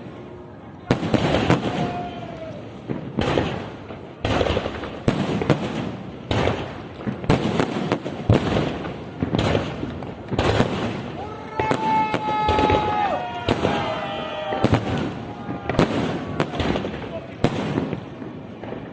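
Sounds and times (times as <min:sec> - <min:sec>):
firework bangs: 0:00.8 - 0:18.9.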